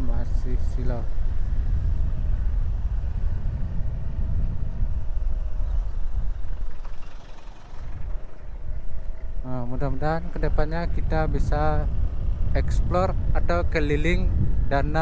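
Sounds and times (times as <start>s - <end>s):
motorcycle engine running: 0.0s - 15.0s
wind rumble on microphone: 0.0s - 15.0s.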